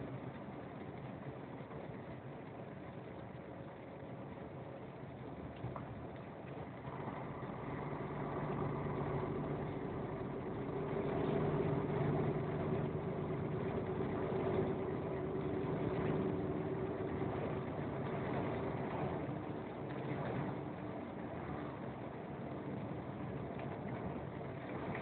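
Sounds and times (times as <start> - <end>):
vehicle engine hum: 0.0 - 25.0.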